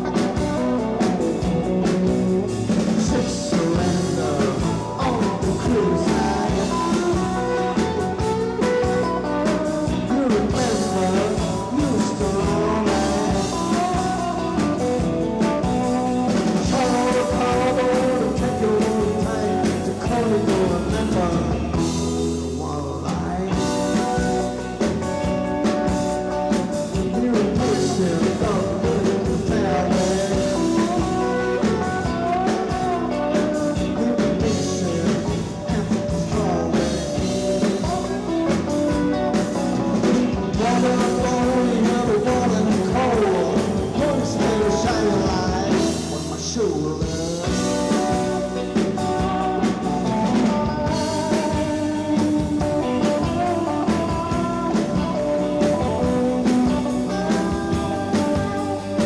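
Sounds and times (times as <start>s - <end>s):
electric guitar bending notes: 0.0s - 22.6s, 23.5s - 59.0s
live rock band playing: 0.0s - 59.0s.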